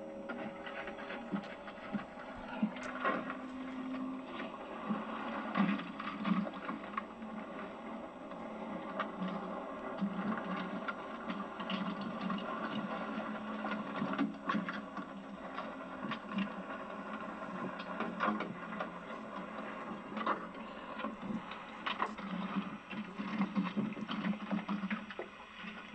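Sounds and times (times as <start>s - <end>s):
boat engine humming: 0.0s - 25.9s.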